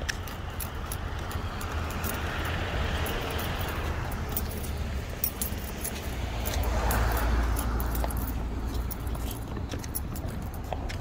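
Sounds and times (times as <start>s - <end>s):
car passing: 0.0s - 11.0s
light jingling clicks: 0.0s - 11.0s.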